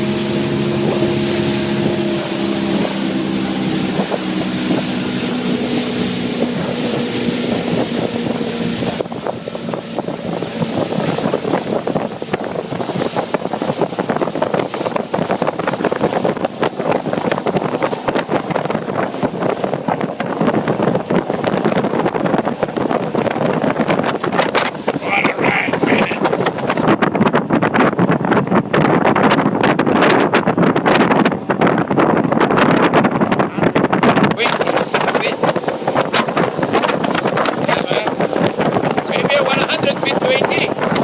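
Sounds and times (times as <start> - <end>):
rushing water: 0.0 - 26.9, 34.4 - 41.0
motorboat engine hum: 0.0 - 41.0
wind buffeting microphone: 0.0 - 41.0.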